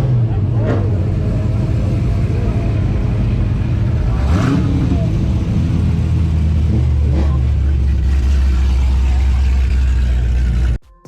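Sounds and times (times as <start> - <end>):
car engine droning: 0.0 - 10.8
engine revving: 0.0 - 10.8.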